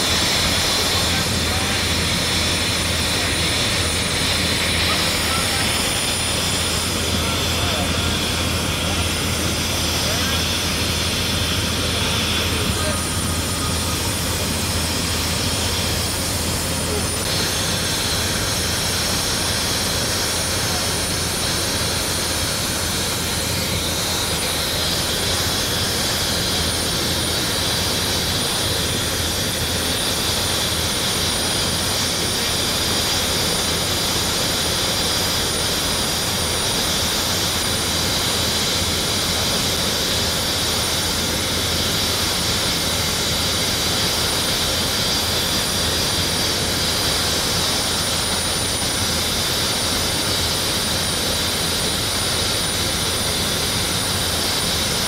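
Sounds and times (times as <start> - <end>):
helicopter turbine whine: 0.0 - 55.0.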